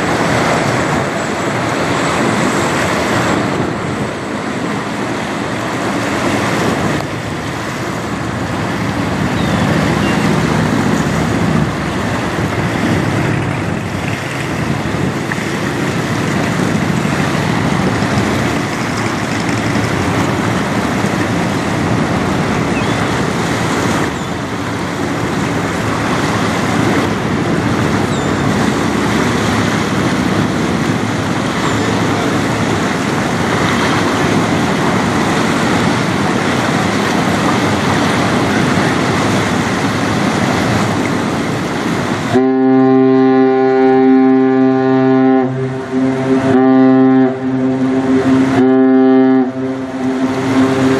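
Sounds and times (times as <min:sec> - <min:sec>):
wind on microphone: 0:00.0 - 0:42.6
bow wave rushing: 0:00.0 - 0:50.9
ship engine drone: 0:00.0 - 0:50.9.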